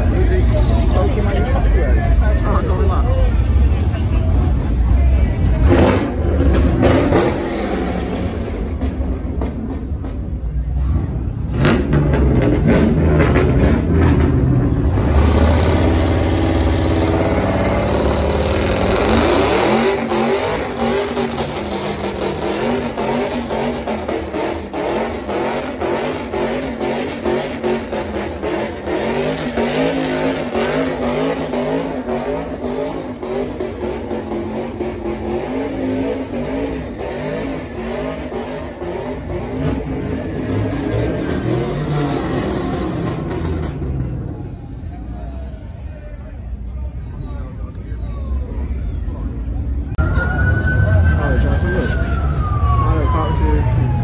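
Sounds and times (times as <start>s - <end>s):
car engine revving: 0.0s - 44.6s.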